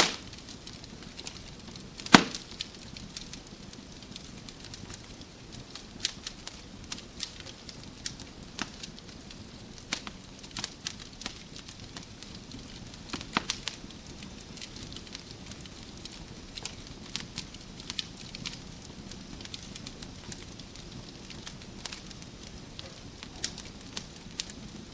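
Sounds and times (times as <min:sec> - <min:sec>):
fire popping and snapping: 0:00.0 - 0:24.9
flames rumbling: 0:00.0 - 0:24.9.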